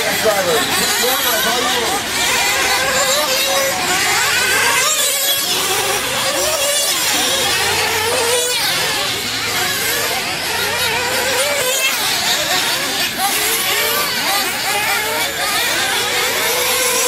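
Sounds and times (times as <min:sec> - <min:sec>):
rc car engines buzzing: 0:00.0 - 0:17.0.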